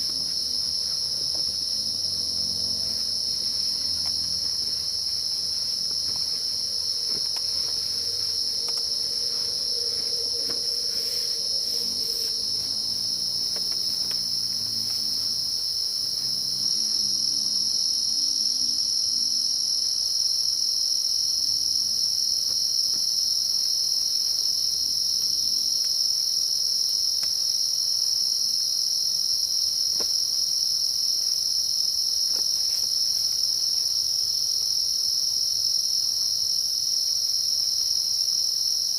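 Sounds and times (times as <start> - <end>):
insect chorus trilling: 0.0 - 38.9.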